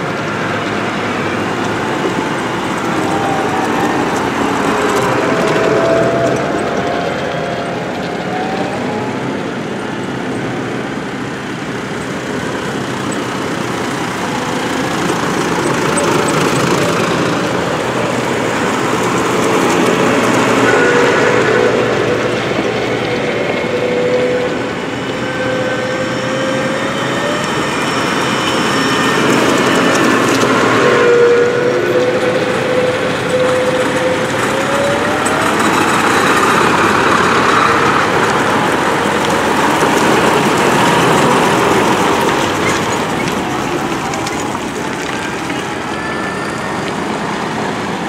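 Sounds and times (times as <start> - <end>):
diesel tractors driving past: 0.0 - 48.0
tractor engine accelerating: 0.0 - 48.0.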